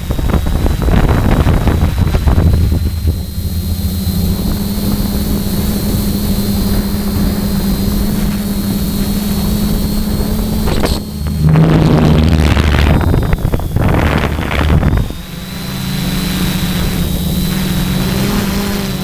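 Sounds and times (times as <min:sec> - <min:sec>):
wind rush: 0:00.0 - 0:18.2
drone motors humming: 0:00.0 - 0:19.0.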